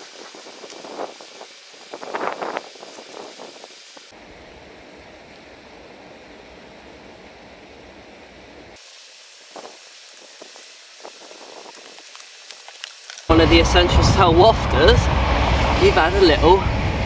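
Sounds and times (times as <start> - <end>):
rushing outdoor noise with rumble: 0.0 - 17.0.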